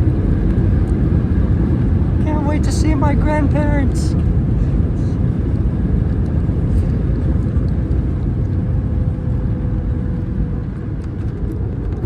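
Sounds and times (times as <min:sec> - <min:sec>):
engine and wheel rumble: 0:00.0 - 0:12.0.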